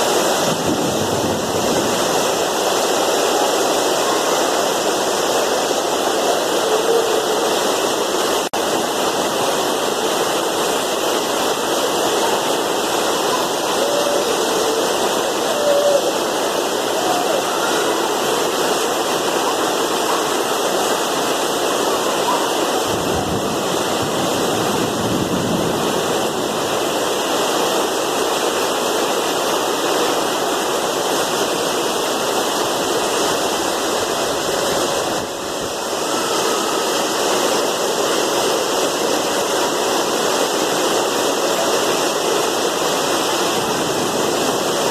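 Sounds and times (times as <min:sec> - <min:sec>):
heavy rain and hail: 0:00.0 - 0:44.9.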